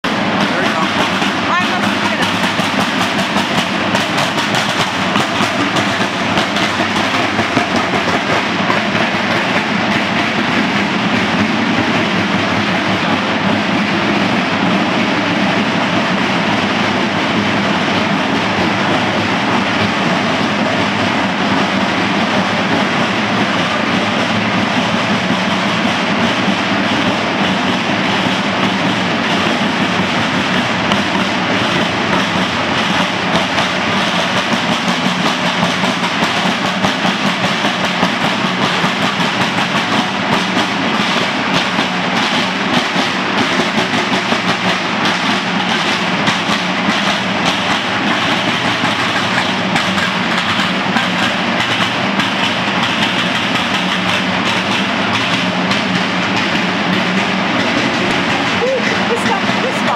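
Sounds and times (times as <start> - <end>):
marching side drums: 0.0 - 59.9.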